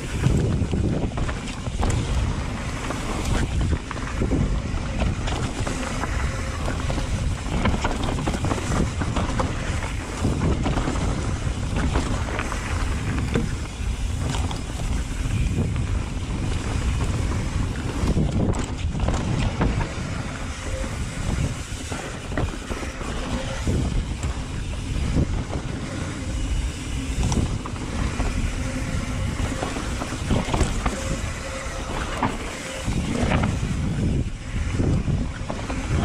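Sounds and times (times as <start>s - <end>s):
bike knocks and rattles: 0.0s - 36.0s
tyres rolling on dirt: 0.0s - 36.0s
wind noise on microphone: 0.0s - 36.0s.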